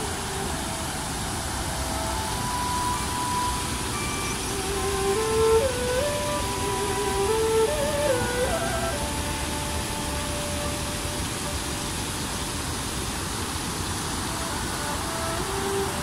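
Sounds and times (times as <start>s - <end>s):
faint background music: 0.0s - 13.2s
water rushing over a weir: 0.0s - 16.0s.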